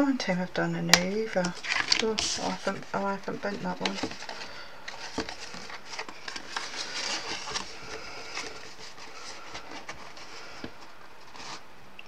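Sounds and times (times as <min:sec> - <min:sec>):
stiff card rustling and crackling: 0:01.4 - 0:11.7.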